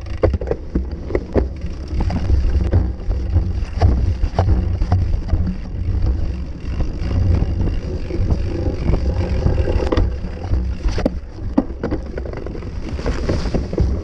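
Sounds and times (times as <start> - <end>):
knocks and rattles on bumps: 0.0 - 14.0
off-road bike ground noise: 0.0 - 14.0
wind buffeting microphone: 0.0 - 14.0.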